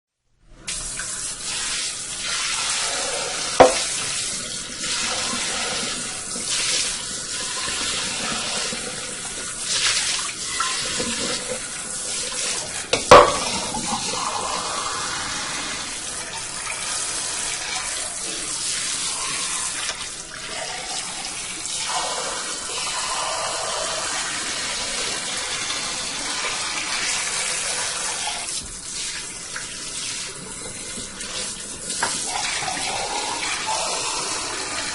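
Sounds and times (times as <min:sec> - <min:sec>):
water spray rinsing dishes: 0:00.6 - 0:34.9.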